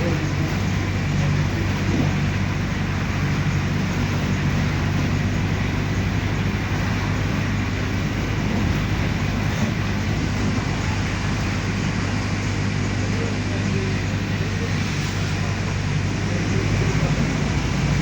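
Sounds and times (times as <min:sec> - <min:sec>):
bus diesel engine running: 0:00.0 - 0:18.0
road noise: 0:00.0 - 0:18.0.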